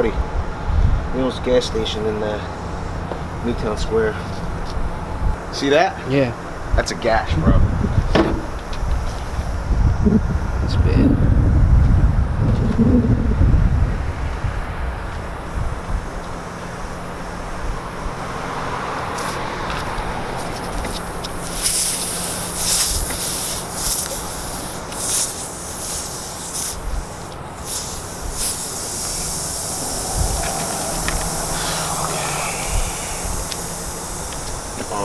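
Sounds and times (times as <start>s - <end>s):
steady low hum: 0.0s - 19.1s, 20.0s - 35.0s
air hissing from tire: 1.2s - 10.7s, 13.2s - 35.0s.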